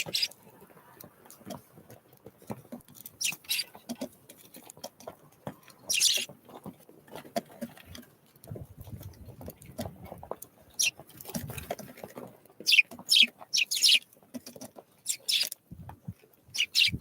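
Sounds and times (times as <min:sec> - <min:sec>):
birds tapping and scratching: 0:00.0 - 0:17.0.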